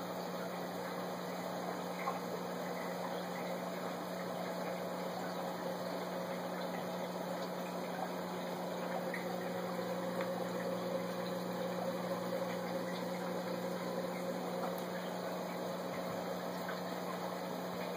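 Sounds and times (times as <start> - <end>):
aquarium pump humming: 0.0 - 17.9.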